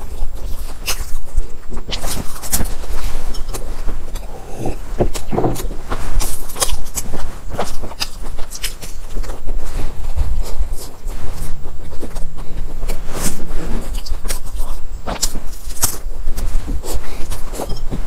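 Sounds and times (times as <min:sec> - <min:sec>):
crunchy pastry chewing: 0:00.0 - 0:18.0.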